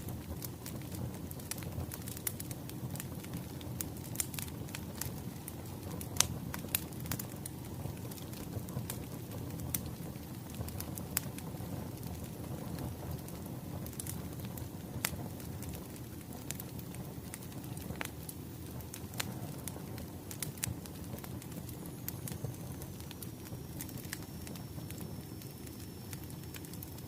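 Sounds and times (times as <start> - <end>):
low rumble of burning logs: 0.0 - 27.0
wood fire crackling: 0.0 - 27.0.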